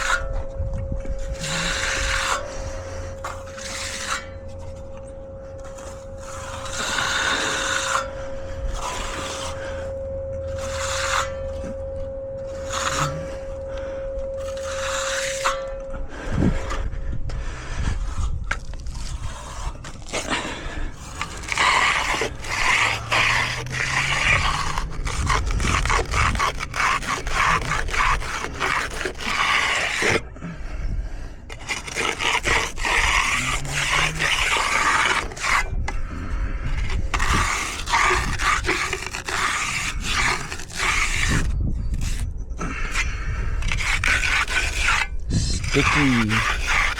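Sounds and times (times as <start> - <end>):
tools scraping over concrete: 0.0 - 30.6, 31.2 - 46.9.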